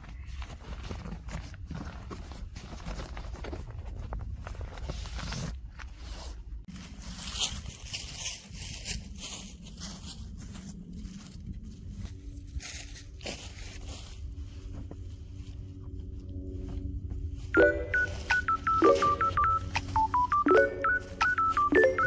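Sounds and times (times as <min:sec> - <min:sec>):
fabric rustling and scraping: 0:00.0 - 0:18.6.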